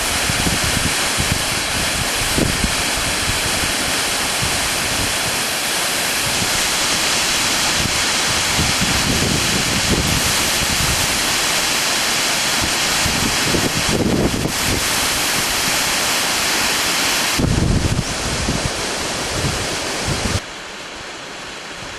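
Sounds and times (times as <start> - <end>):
waterfall pouring: 0.0 - 19.4.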